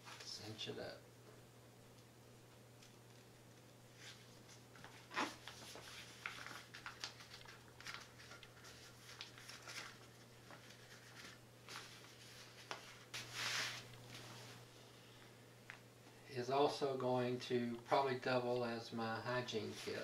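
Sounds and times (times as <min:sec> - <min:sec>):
faint steady low hum: 0:00.0 - 0:20.0.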